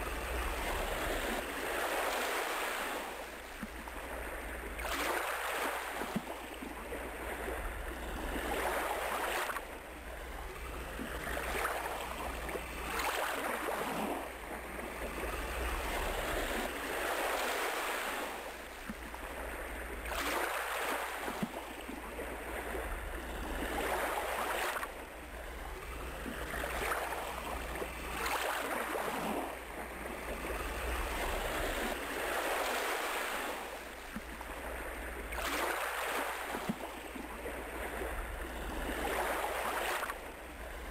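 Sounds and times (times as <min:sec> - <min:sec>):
waves washing in: 0:00.0 - 0:40.9.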